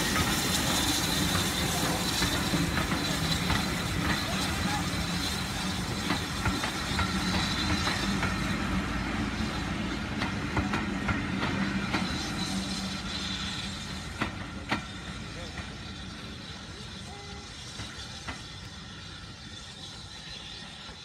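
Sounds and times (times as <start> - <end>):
train coaches rumbling: 0.0 - 21.0.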